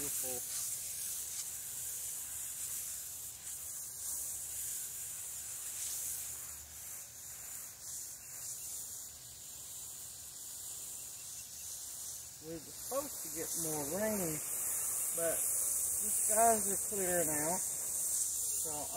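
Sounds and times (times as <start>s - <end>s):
water spraying from hose nozzle: 0.0s - 18.9s.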